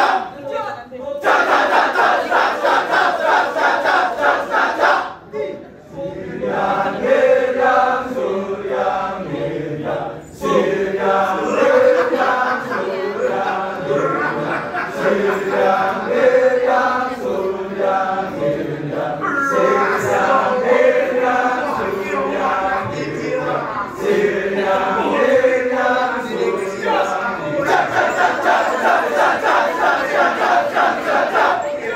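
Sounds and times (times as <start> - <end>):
men chanting in unison: 6.0 - 31.9.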